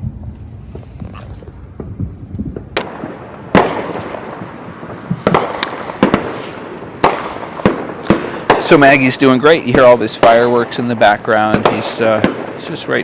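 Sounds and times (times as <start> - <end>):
fireworks booming: 0.0 - 13.0
fireworks crackle: 0.0 - 13.0.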